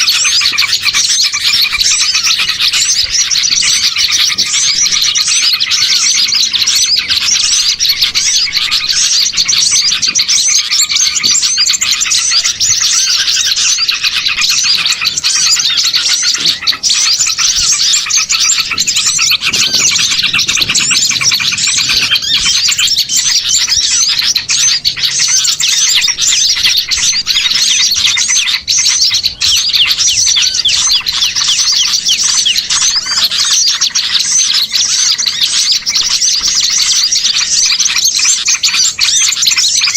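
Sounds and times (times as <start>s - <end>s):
songbirds chirping chorus: 0.0s - 39.9s.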